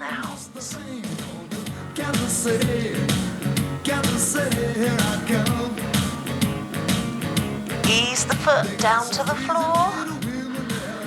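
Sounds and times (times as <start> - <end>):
rock and roll song with singing: 0.0 - 11.0.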